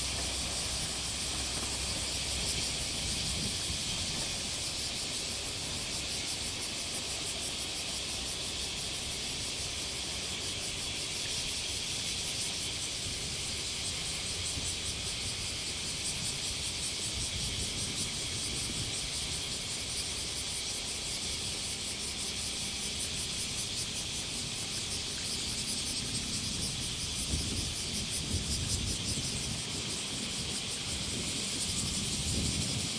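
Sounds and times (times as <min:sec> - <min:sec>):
cicadas shrilling: 0:00.0 - 0:32.9
diesel railcar engine rumble: 0:00.0 - 0:32.9.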